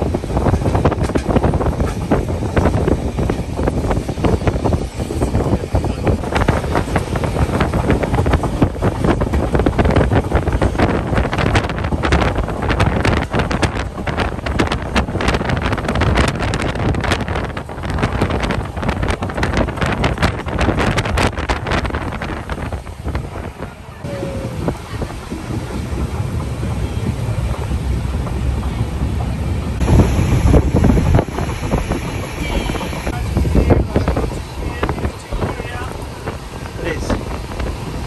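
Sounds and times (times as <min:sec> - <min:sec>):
train rumbling: 0:00.0 - 0:38.0
wind rushing over microphone: 0:00.0 - 0:38.0.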